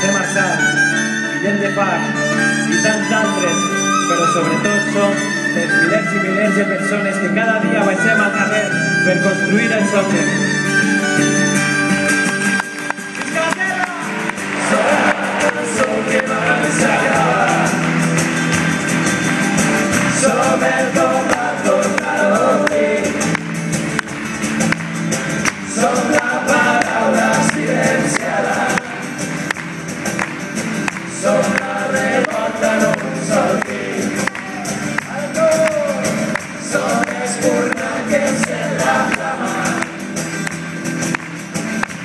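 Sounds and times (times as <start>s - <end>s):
acoustic guitars: 0.0s - 42.0s
instrumental melody: 0.0s - 42.0s.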